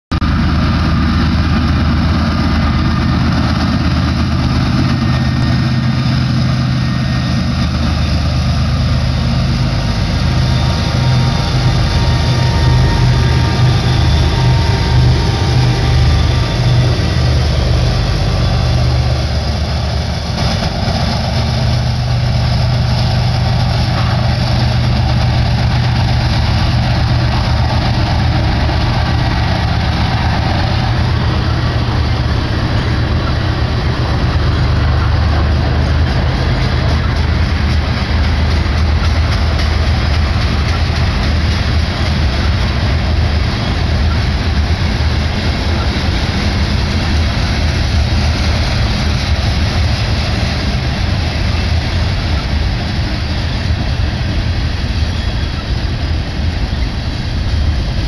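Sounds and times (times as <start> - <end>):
diesel locomotive engine drone: 0.1 - 58.0
train wheels rumbling on rail: 0.1 - 58.0.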